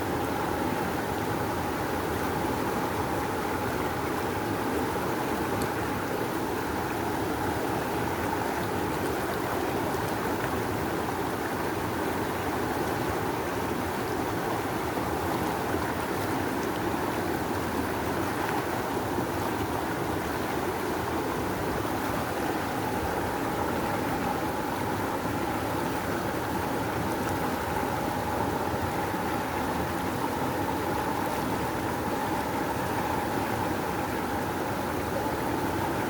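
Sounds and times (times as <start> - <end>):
rushing river water: 0.0 - 36.0.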